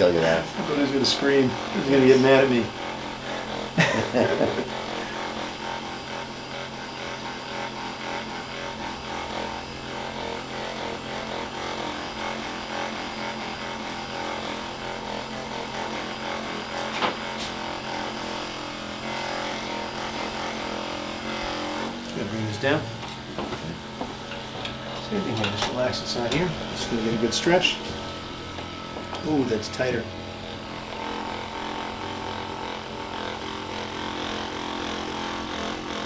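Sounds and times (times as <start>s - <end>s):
electric massager running: 0.0s - 36.0s.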